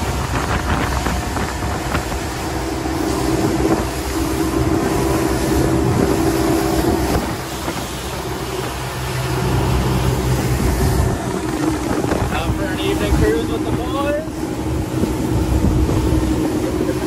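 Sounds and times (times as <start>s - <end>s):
outboard motors droning: 0.0s - 17.0s
rush of wind and water: 0.0s - 17.0s.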